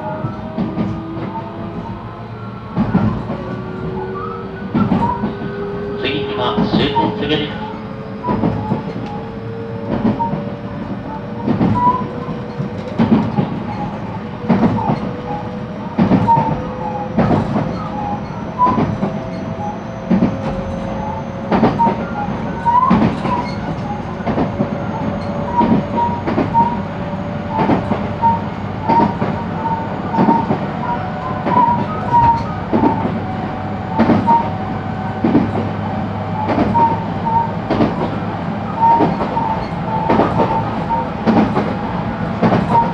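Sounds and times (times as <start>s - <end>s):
wheels clacking over rail joints: 2.7s - 26.8s, 27.5s - 42.9s.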